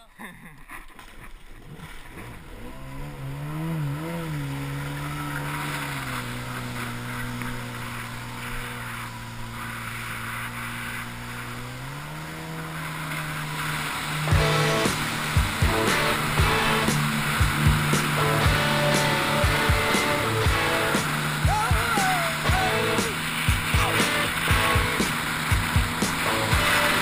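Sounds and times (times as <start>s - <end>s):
jet ski engine revving: 0.9s - 27.0s
water spray hissing: 3.6s - 27.0s.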